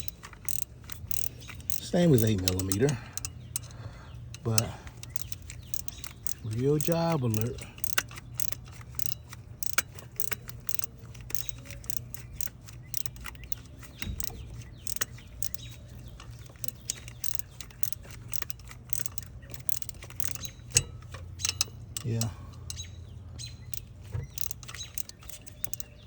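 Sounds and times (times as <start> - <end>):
ratcheting wrench clicking: 0.0 - 26.0.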